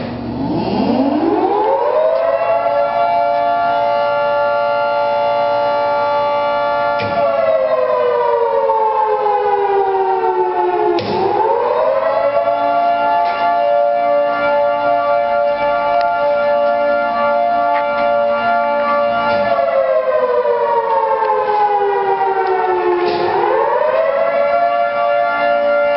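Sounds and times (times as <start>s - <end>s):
three-tone warning siren wailing: 0.0s - 25.9s.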